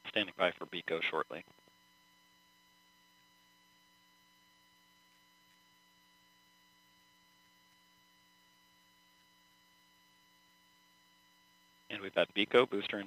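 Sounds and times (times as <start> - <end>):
faint electrical hum and hiss: 0.0 - 13.0.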